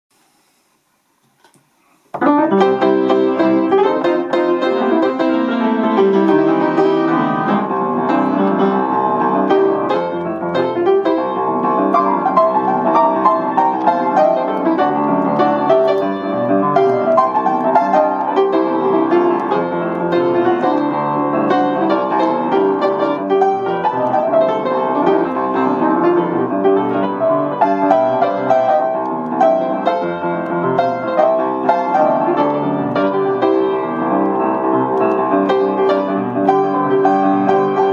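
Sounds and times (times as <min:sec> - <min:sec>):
upright piano playing: 0:02.2 - 0:37.9.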